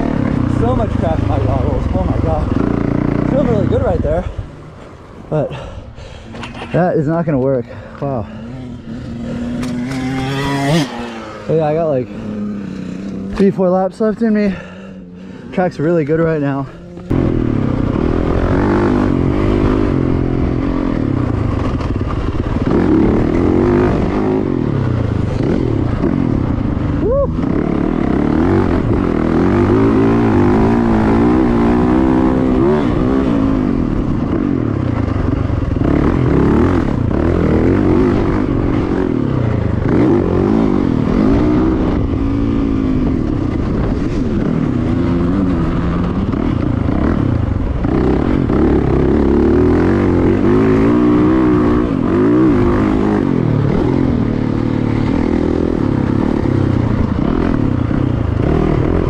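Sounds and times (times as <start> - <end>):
motorcycle engine revving: 0.0 - 5.7, 6.4 - 59.0.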